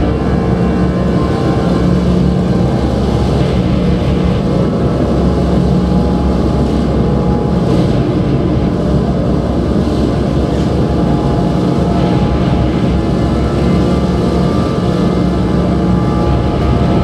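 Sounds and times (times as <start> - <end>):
drone music: 0.0 - 17.0.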